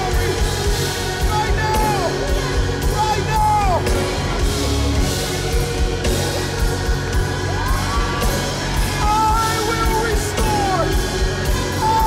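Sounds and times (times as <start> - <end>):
voices singing: 0.0 - 12.0
worship music: 0.0 - 12.0.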